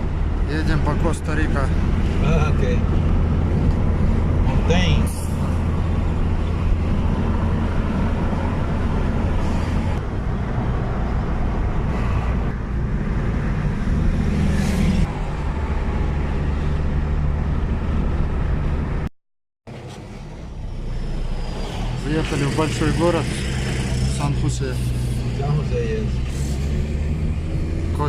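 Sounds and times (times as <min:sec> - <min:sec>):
vehicle engine drone: 0:00.0 - 0:19.1, 0:19.7 - 0:28.0.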